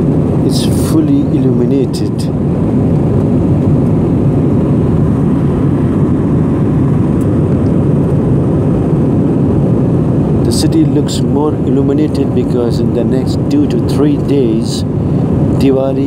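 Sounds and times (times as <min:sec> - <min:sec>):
airliner cabin engine noise: 0:00.0 - 0:16.0.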